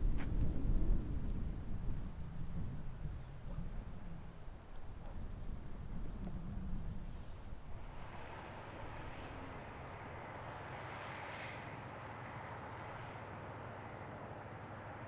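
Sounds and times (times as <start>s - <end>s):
distant engine humming: 0.0s - 15.0s.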